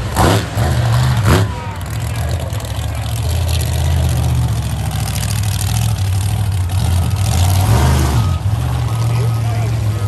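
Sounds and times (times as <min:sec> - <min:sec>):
truck engine running low: 0:00.0 - 0:10.0.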